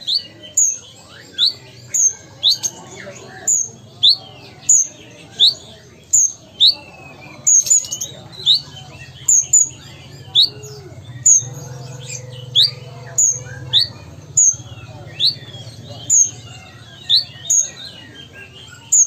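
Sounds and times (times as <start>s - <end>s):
sunbird chirping: 0.0s - 19.0s.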